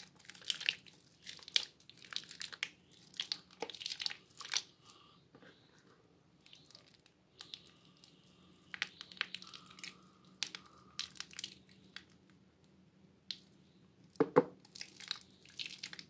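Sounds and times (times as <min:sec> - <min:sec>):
wet soap crunching and squishing: 0:00.0 - 0:05.0, 0:06.4 - 0:12.4, 0:14.1 - 0:16.0.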